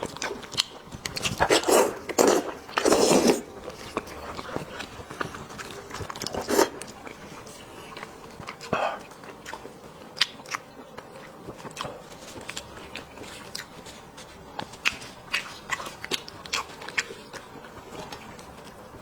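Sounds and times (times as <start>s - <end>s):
biting and chewing: 0.0s - 19.0s.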